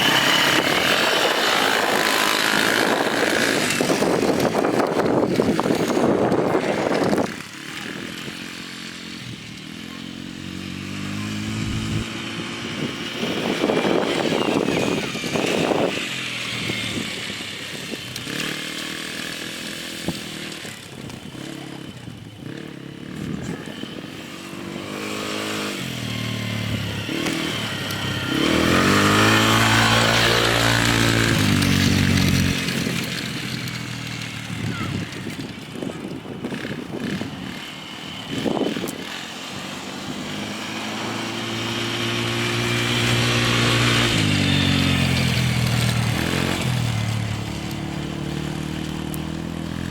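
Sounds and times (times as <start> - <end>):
quad engine revving: 0.0 - 49.9.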